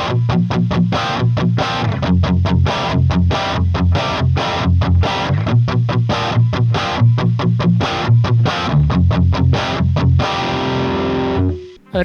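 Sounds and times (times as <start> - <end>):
distorted electric guitar riff: 0.0 - 12.0.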